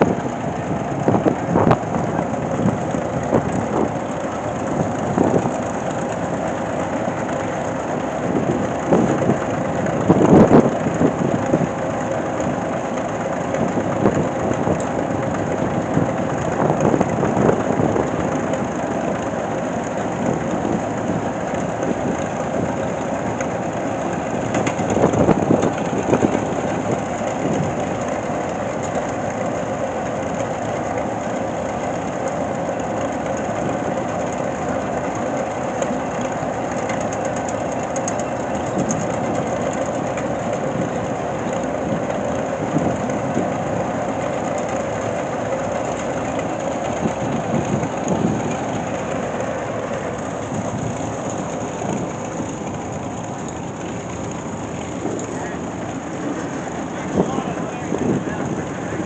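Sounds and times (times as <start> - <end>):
heavy machinery rumbling: 0.0 - 59.0.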